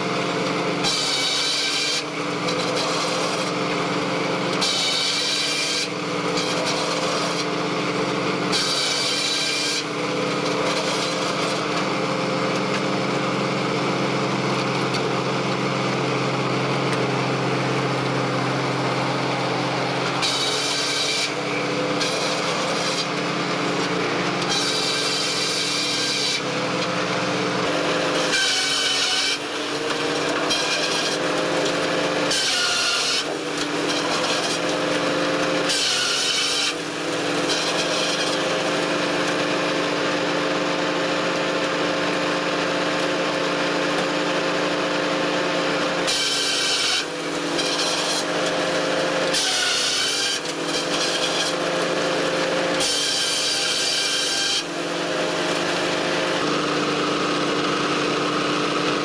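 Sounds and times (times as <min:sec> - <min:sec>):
circular saw cutting wood: 0:00.0 - 0:59.0.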